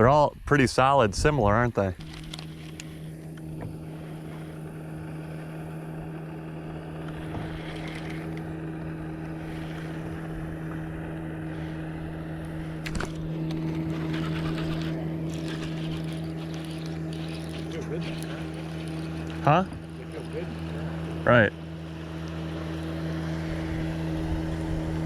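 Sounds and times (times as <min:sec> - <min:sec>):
boat motor humming: 0:01.1 - 0:25.0.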